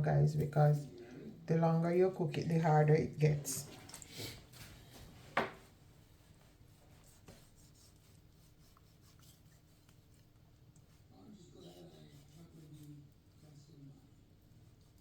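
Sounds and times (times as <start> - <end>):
faint rubbing and handling noises: 2.1 - 15.0.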